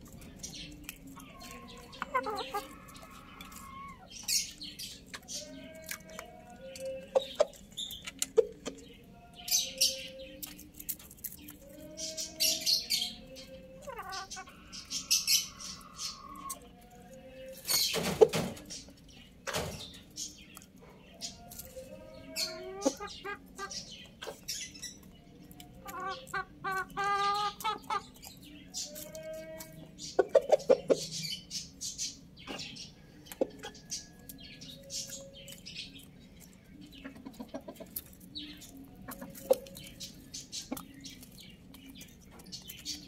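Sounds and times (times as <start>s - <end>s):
beaks pecking a clay dish: 0.0s - 43.0s
chickens clucking: 0.0s - 43.0s.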